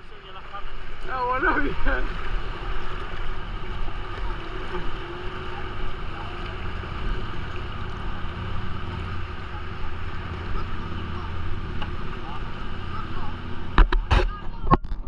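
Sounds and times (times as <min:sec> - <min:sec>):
river water rushing: 0:00.0 - 0:13.9.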